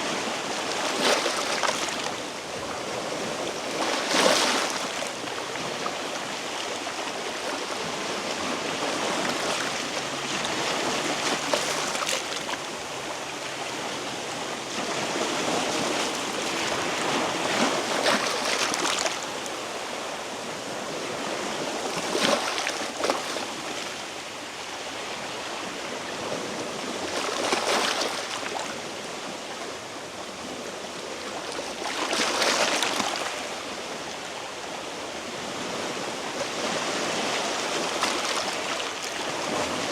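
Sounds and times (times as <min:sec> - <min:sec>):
waves washing over rocks: 0:00.0 - 0:39.9.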